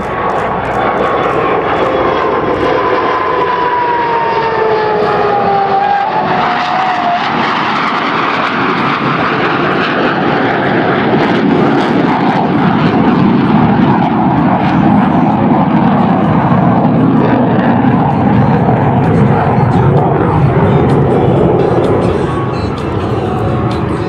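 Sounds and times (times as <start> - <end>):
jet flyby: 0.0 - 24.0.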